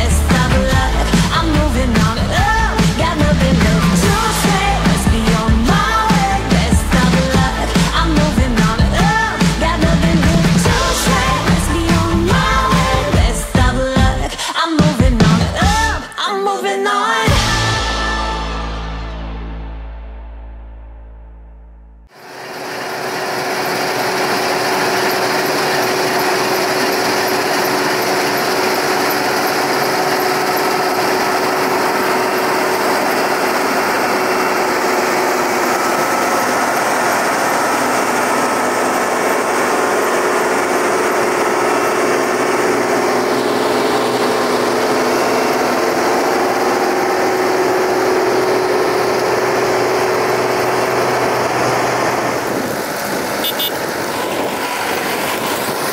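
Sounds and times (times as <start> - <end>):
farm machinery engine running: 0.0 - 14.4, 22.1 - 55.9.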